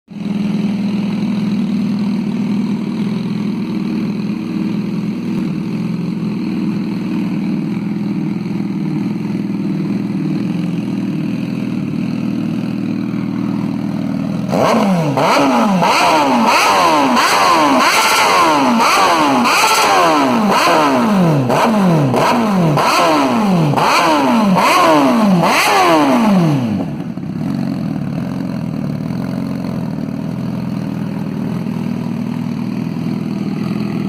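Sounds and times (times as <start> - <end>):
motorcycle engine idling: 0.1 - 34.0
motorcycle engine revving: 0.1 - 34.0.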